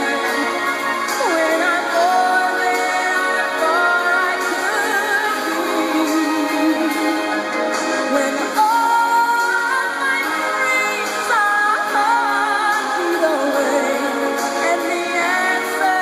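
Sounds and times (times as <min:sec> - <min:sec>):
song with singer: 0:00.0 - 0:16.0.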